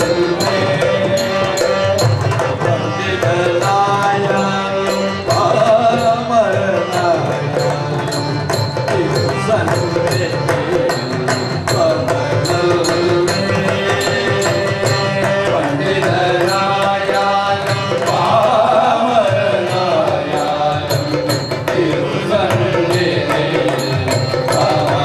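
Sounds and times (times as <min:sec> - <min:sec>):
group of singers: 0:00.0 - 0:25.0
harmonium: 0:00.0 - 0:25.0.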